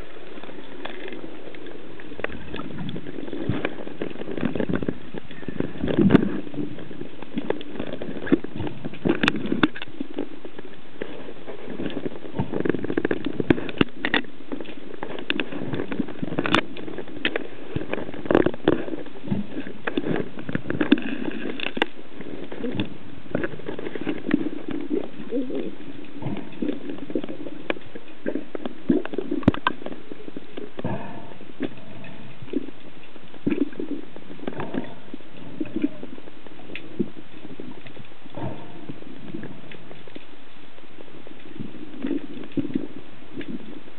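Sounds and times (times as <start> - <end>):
muffled underwater rush: 0.0 - 43.9.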